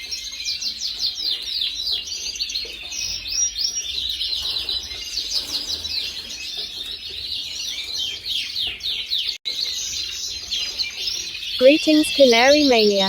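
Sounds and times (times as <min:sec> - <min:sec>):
canary singing trills: 0:00.0 - 0:13.0.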